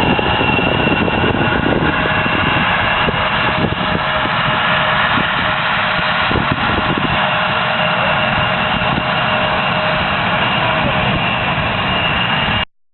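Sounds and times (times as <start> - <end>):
jet engines whining: 0.0 - 12.7.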